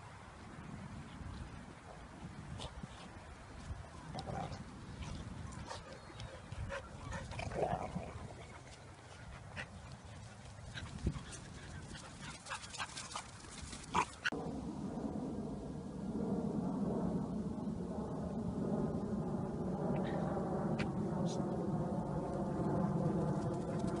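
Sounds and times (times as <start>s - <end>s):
outdoor noise: 0.0s - 24.0s.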